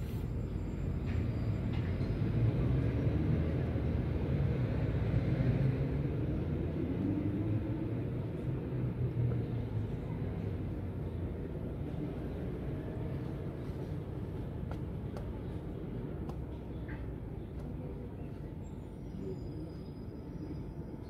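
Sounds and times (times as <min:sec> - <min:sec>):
tram rumbling: 0:00.0 - 0:21.0.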